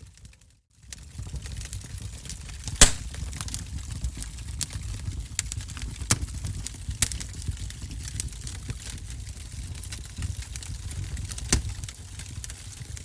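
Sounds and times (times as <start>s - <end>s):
fire crackling: 2.5s - 13.0s.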